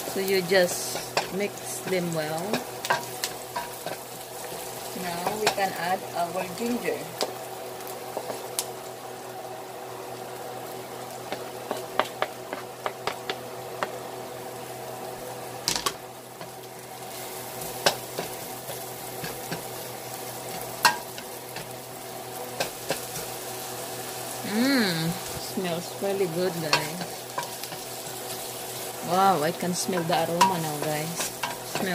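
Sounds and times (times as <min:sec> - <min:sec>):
onions sizzling in a pan: 0:00.0 - 0:31.9.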